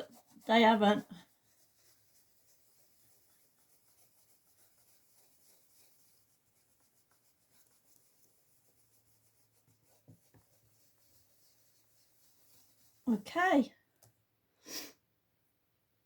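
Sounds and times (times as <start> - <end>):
brush rubbing on stencil: 0.0 - 13.6.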